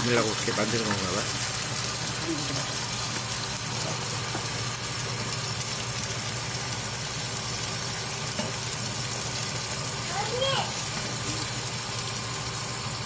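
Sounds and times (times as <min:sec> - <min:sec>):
pancakes sizzling in oil: 0:00.0 - 0:13.0.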